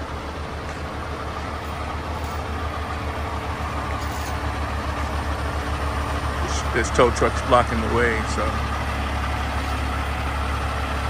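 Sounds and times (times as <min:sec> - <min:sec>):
diesel engine low rumble: 0:00.0 - 0:11.0.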